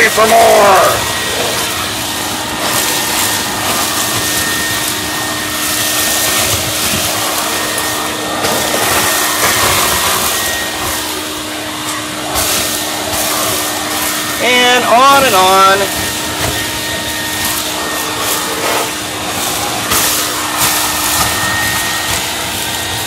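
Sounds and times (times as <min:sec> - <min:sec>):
shop vac sucking wet mud: 0:00.0 - 0:23.0.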